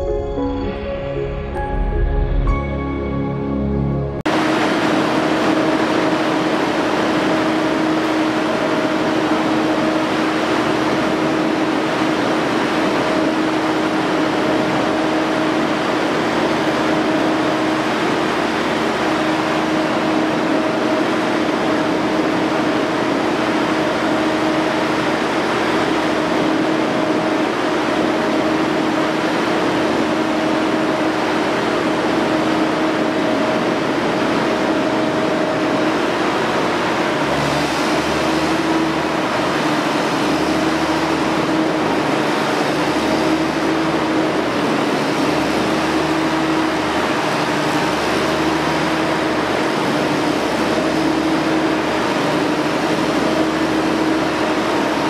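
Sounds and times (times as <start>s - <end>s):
generator engine droning: 0.0s - 55.0s.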